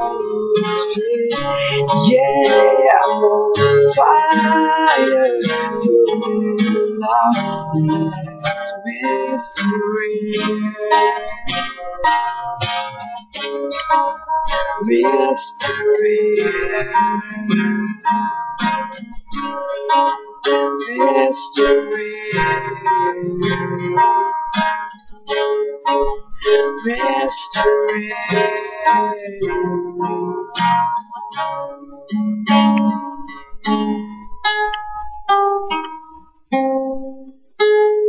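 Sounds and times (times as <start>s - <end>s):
acoustic guitar picking: 0.0s - 38.0s.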